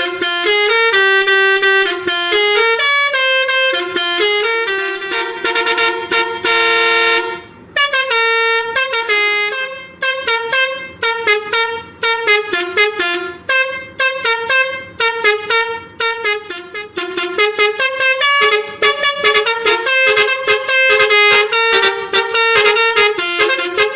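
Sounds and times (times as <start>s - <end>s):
multi-trumpet air horn tune: 0.0s - 23.9s.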